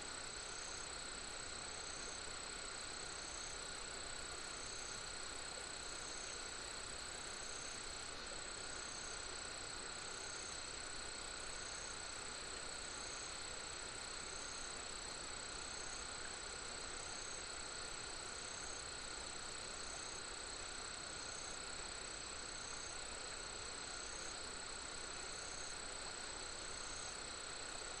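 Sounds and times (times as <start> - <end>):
cricket chirping in regular pulse: 0.0 - 28.0
insects trilling: 0.0 - 28.0.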